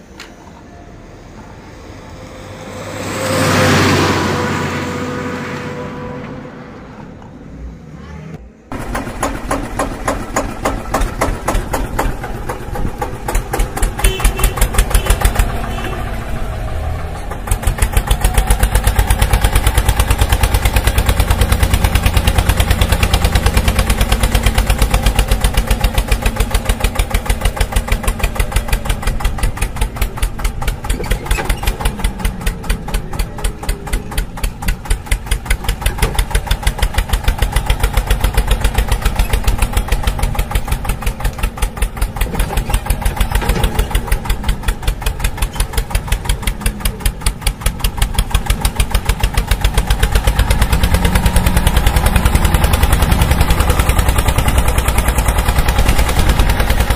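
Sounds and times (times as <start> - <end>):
tractor engine chugging: 8.7 - 56.9.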